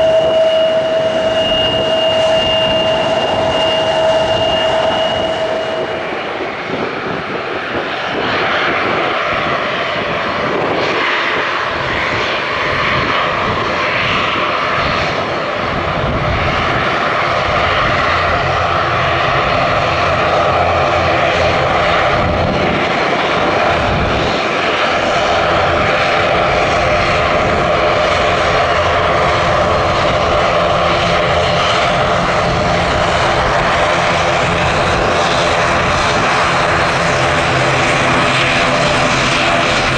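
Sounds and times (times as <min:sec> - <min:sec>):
airliner engines humming: 0:00.0 - 0:39.9.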